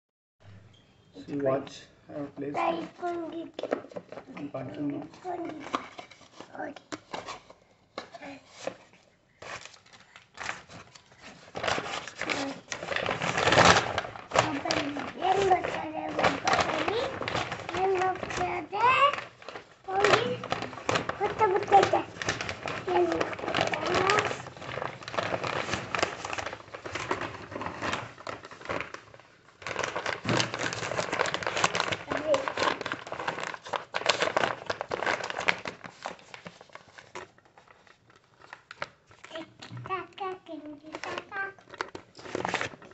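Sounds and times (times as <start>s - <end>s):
packaging rubbing and scraping: 2.5s - 42.9s
paper envelope crinkling: 2.5s - 42.9s.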